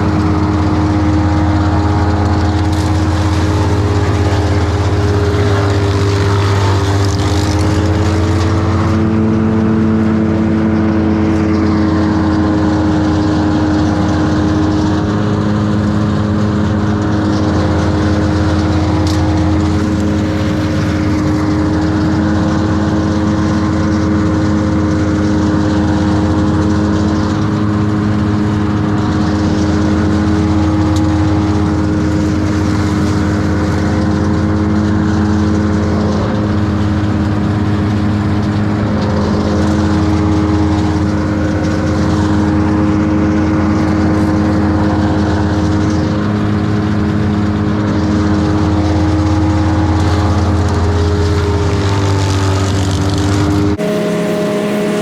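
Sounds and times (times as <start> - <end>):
large engine humming: 0.0 - 55.0.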